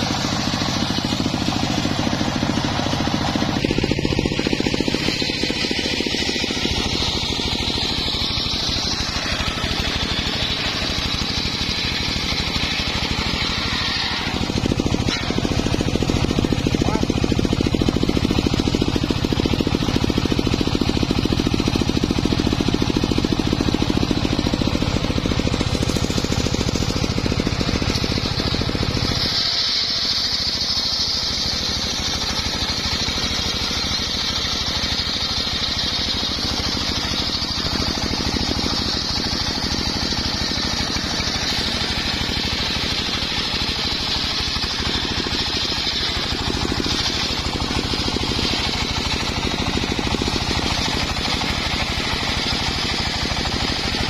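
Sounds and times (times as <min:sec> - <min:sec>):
saw blade whining in log: 0:00.0 - 0:54.0
sawmill engine pulsing: 0:00.0 - 0:54.0.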